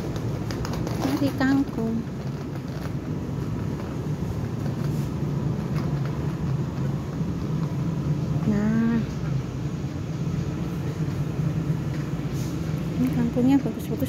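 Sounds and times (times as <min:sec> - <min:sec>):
supermarket background hum: 0:00.0 - 0:14.0.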